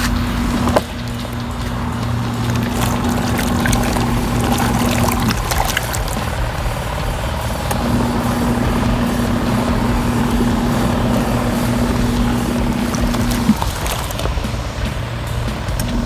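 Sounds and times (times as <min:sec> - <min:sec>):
washing machine motor humming: 0:00.0 - 0:16.0
water swishing in a tub: 0:00.0 - 0:16.0.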